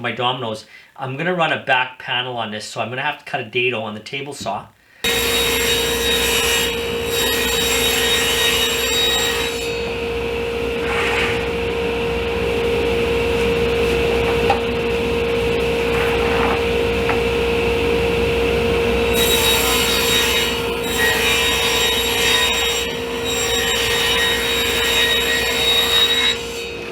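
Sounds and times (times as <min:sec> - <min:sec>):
table saw cutting plywood: 0:05.0 - 0:26.9.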